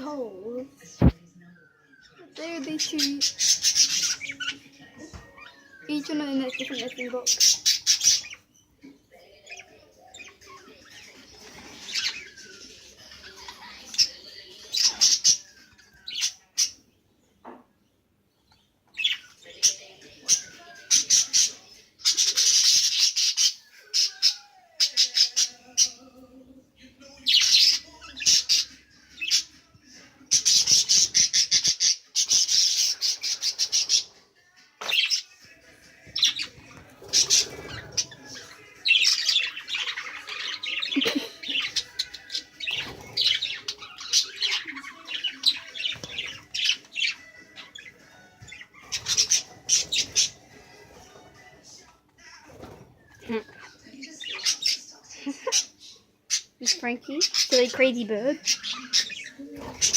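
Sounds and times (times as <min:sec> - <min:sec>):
budgerigars squawking and chattering: 0:00.8 - 0:01.2, 0:01.9 - 0:08.5, 0:09.2 - 0:16.9, 0:18.9 - 0:26.1, 0:27.0 - 0:34.2, 0:34.8 - 0:59.9.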